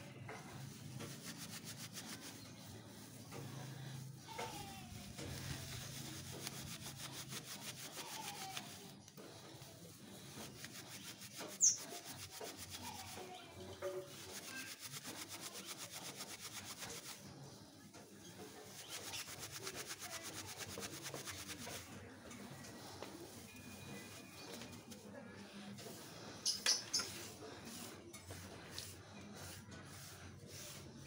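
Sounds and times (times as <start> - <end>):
hands rubbing dry fibre: 0.3 - 17.6, 18.3 - 31.0.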